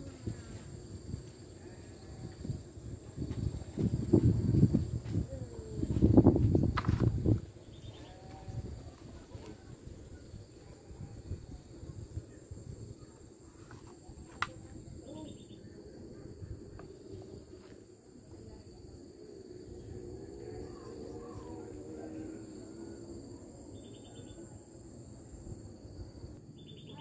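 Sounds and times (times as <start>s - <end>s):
insects singing: 0.0s - 27.0s.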